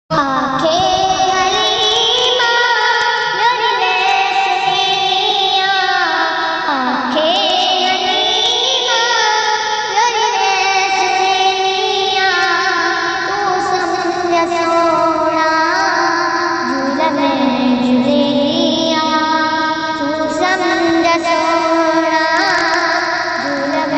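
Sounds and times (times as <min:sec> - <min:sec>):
person singing long sliding notes: 0:00.4 - 0:09.1, 0:11.4 - 0:23.9.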